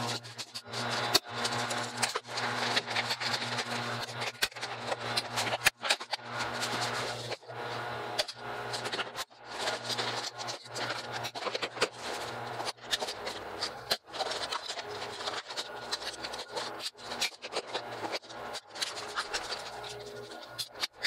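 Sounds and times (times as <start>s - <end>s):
plastic scraping and rattling: 0.0s - 21.0s.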